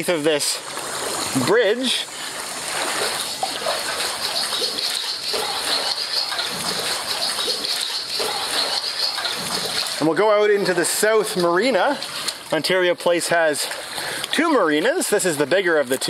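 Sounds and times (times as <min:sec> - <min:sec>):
kayak paddle splashing: 0:00.0 - 0:15.6
water sloshing along hull: 0:00.0 - 0:15.9.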